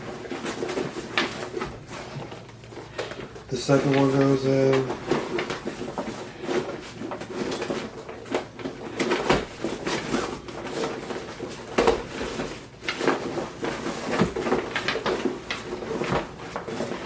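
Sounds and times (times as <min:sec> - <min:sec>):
skate bag rustling and scraping: 0:00.0 - 0:17.0.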